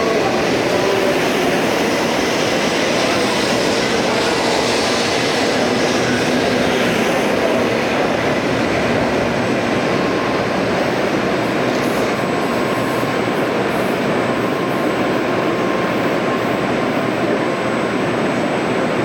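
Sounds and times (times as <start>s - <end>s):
train rushing noise: 0.0s - 19.0s.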